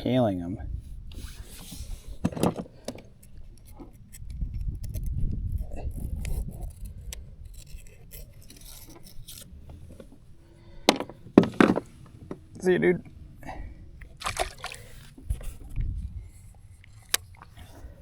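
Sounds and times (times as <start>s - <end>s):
fishing tackle clicks and scrapes: 1.1s - 12.7s, 14.0s - 18.0s.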